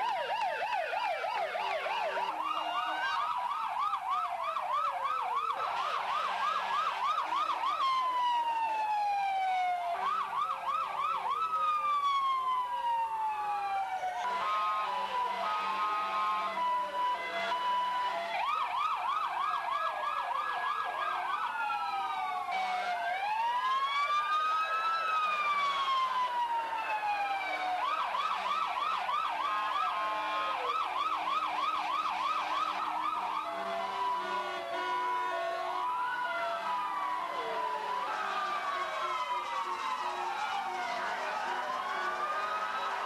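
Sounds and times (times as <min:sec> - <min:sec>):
sirens wailing: 0:00.0 - 0:43.0
sirens yelping: 0:00.0 - 0:43.0
steady siren tone: 0:00.0 - 0:43.0.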